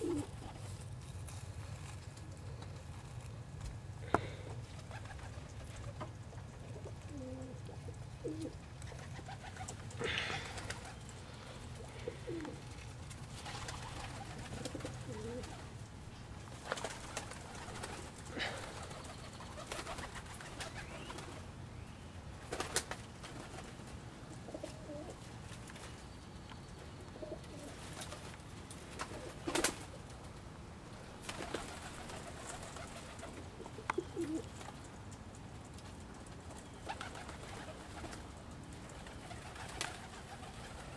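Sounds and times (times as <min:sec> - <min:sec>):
pigeons cooing: 0:00.0 - 0:00.7, 0:04.0 - 0:21.5, 0:22.5 - 0:25.3, 0:27.0 - 0:30.3, 0:30.9 - 0:35.0, 0:36.5 - 0:40.9.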